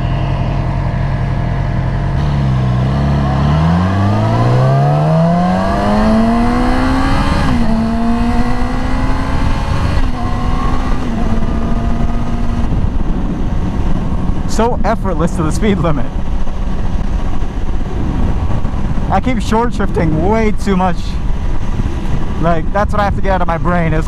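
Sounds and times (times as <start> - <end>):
motorcycle engine accelerating: 0.0 - 20.6.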